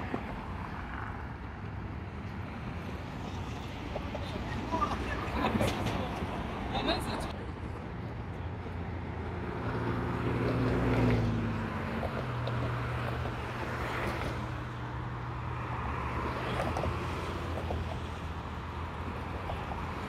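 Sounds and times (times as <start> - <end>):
hum of traffic: 0.0 - 20.0.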